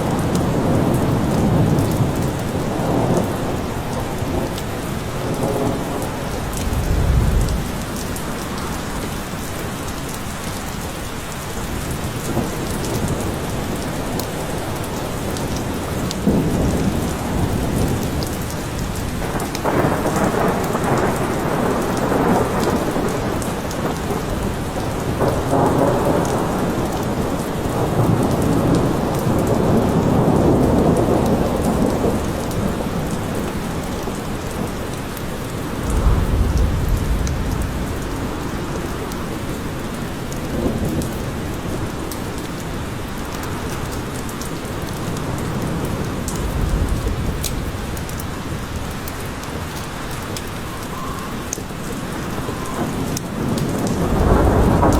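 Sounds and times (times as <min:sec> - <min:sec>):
low rolls of thunder: 0:00.0 - 0:09.1, 0:12.2 - 0:34.8, 0:35.4 - 0:42.5, 0:44.8 - 0:49.0, 0:50.5 - 0:54.9
heavy rain in a forest: 0:00.0 - 0:54.9.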